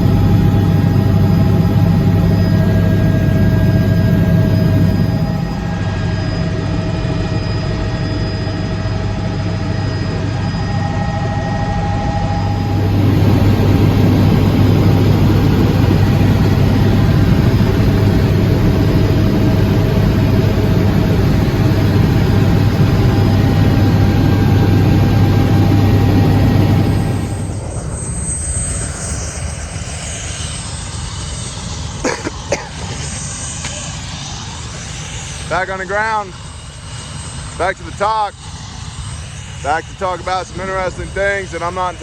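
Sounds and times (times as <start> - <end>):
aircraft engine drone: 0.0 - 42.0.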